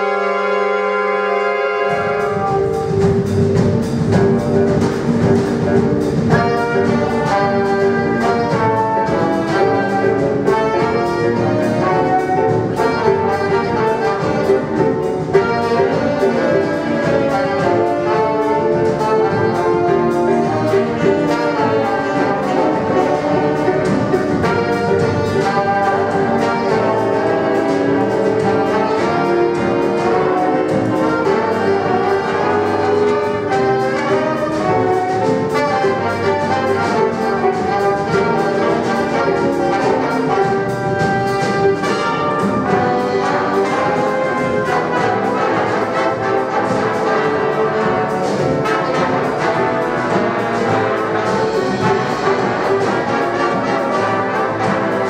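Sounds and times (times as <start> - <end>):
big band playing jazz: 0.0 - 55.0.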